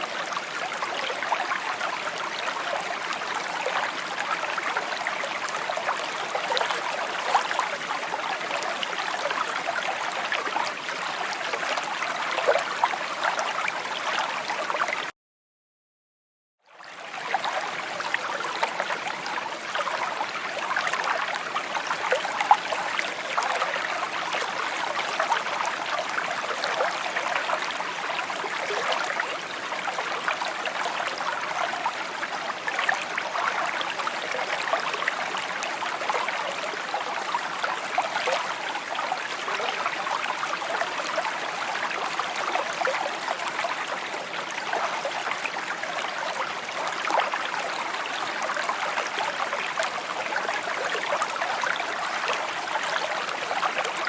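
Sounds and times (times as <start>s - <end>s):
stream babbling over stones: 0.0s - 14.8s, 17.0s - 54.0s.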